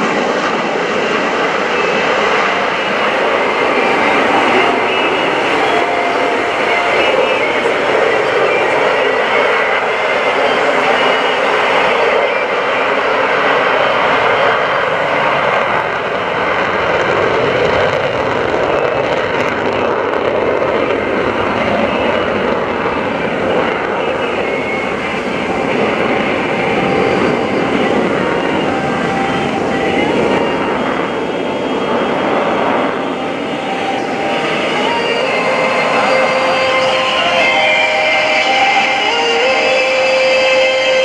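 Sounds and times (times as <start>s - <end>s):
jet engines flying past: 0.0s - 41.0s.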